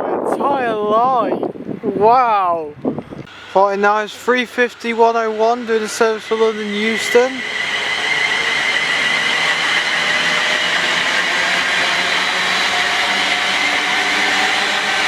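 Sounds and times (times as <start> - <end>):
electric motor whine: 2.9 - 15.0
train rushing through station: 2.9 - 15.0.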